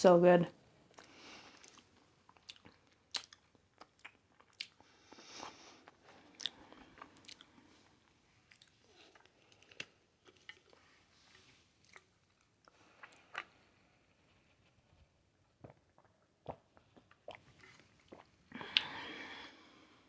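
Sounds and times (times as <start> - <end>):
quiet chewing: 0.9 - 19.1.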